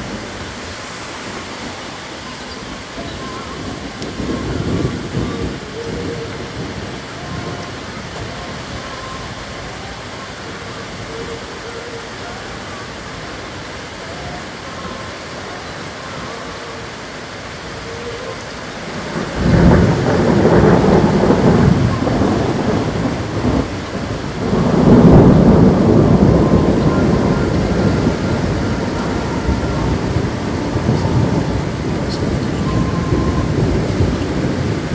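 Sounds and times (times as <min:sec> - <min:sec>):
steady rain: 0:00.0 - 0:34.9
thunder rumbling: 0:00.0 - 0:34.9.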